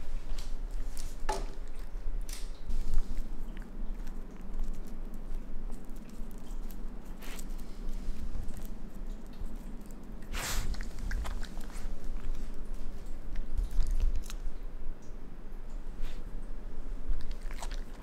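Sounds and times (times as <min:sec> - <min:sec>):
raccoon chewing: 0:00.0 - 0:15.2, 0:15.8 - 0:18.0.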